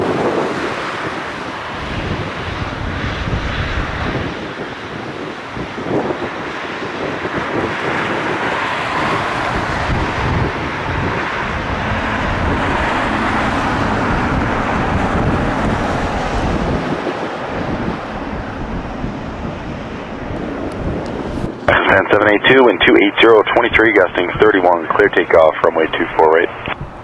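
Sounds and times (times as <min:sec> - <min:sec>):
jet engine roar: 0:00.0 - 0:27.0
wind buffeting microphone: 0:00.0 - 0:27.0.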